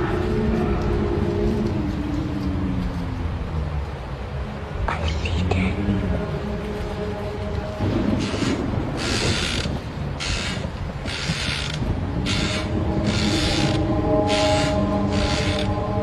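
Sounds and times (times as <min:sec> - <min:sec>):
low eerie drone: 0:00.0 - 0:16.0
low rumble: 0:00.0 - 0:16.0.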